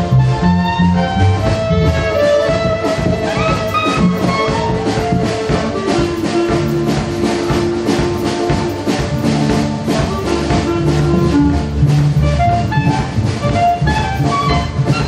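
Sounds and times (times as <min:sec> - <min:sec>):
accordion: 0:00.0 - 0:15.0
clarinet melody: 0:00.0 - 0:15.0
drum kit steady beat: 0:00.0 - 0:15.0
guitar: 0:00.0 - 0:15.0.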